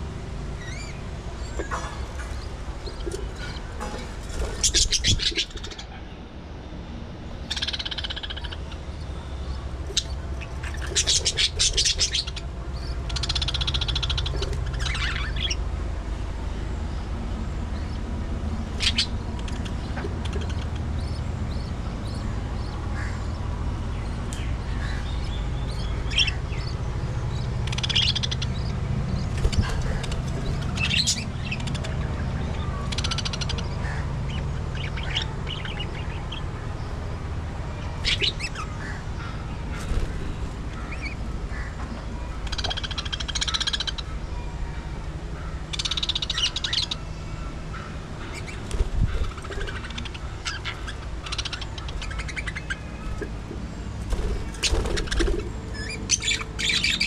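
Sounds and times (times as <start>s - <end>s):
steady low hum: 0.0s - 57.0s
budgerigars chirping: 0.6s - 5.9s, 7.5s - 15.6s, 18.7s - 23.2s, 24.4s - 36.4s, 38.0s - 41.7s, 42.4s - 44.1s, 45.7s - 47.0s, 47.7s - 57.0s.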